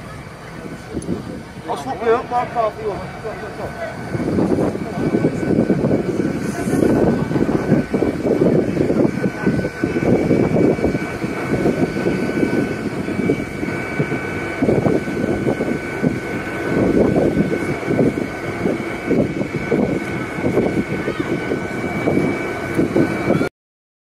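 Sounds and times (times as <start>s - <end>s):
fire engine rumbling: 0.0s - 23.5s
pump high whine: 0.0s - 23.5s.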